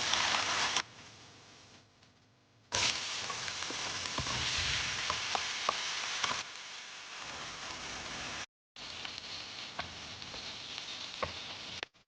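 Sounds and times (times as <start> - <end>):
meat sizzling in a pan: 0.0 - 0.9, 2.7 - 12.0.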